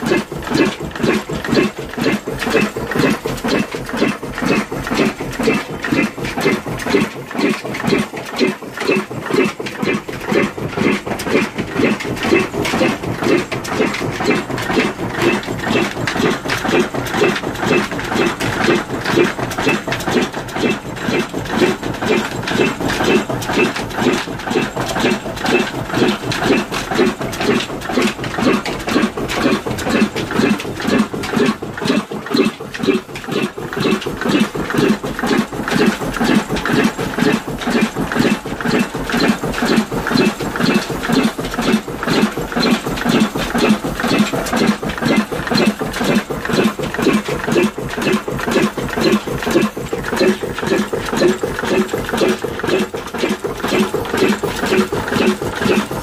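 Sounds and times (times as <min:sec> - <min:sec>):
diesel engine exhaust beat: 0:00.0 - 0:56.0.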